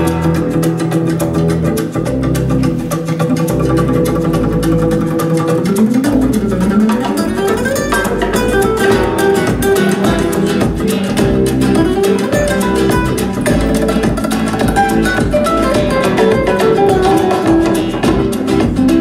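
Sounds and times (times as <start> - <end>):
flamenco guitar music: 0.0 - 19.0.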